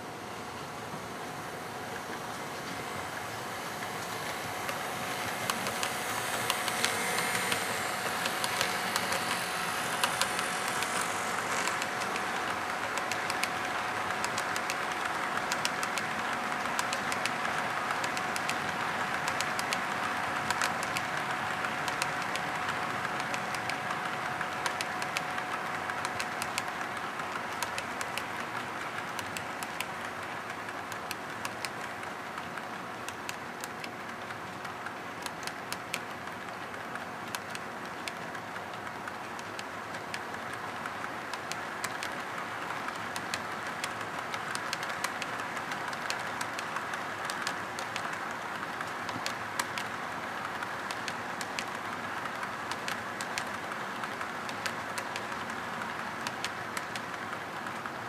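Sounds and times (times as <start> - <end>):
faint steady hum: 0.0 - 58.0
sharp track clicks: 1.9 - 58.0
model train wheels rattling: 2.7 - 58.0.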